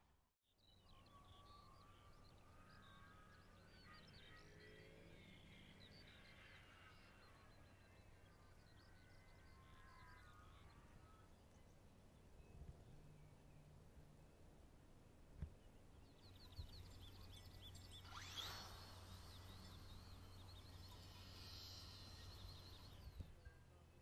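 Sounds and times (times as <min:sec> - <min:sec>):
faint birdsong chirps and trills: 0:00.4 - 0:24.0
low steady hum: 0:00.9 - 0:24.0.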